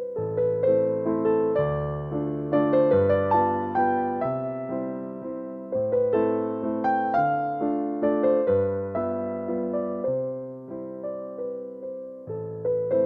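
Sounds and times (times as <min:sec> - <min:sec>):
electric piano slow chords: 0:00.0 - 0:13.0.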